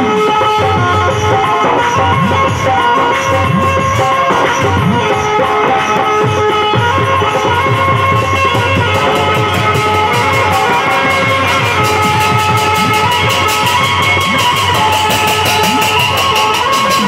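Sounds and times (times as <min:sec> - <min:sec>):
drum beats with bending low note: 0:00.0 - 0:17.0
fast percussion strokes: 0:00.0 - 0:17.0
keyboard melody: 0:00.0 - 0:17.0.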